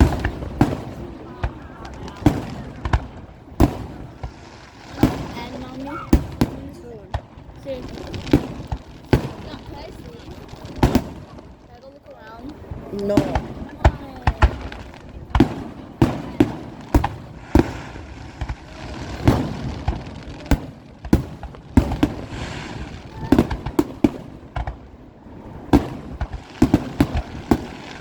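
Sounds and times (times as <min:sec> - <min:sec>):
fireworks bangs: 0:00.0 - 0:28.0
fireworks rumbling and crackle: 0:00.0 - 0:28.0.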